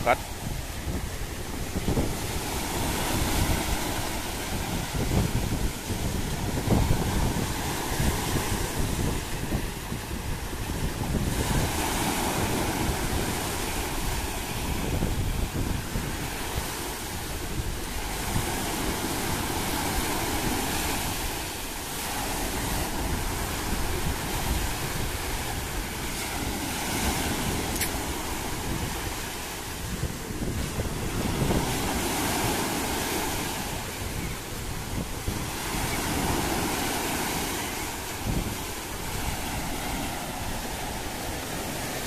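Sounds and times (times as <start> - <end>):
waves breaking on shore: 0.0 - 42.0
wind buffeting microphone: 0.0 - 42.0.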